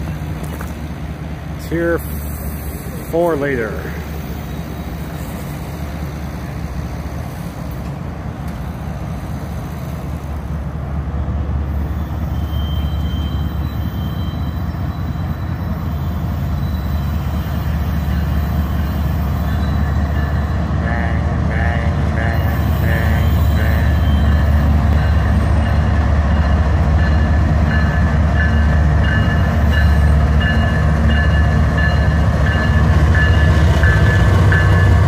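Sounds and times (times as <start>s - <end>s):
locomotive engine rumble: 0.0s - 35.0s.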